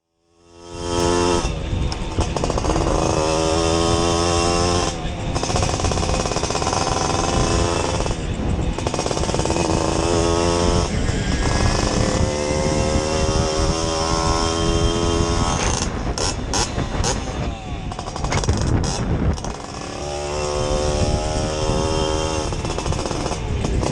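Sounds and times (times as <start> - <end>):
moped engine revving: 0.3 - 23.9.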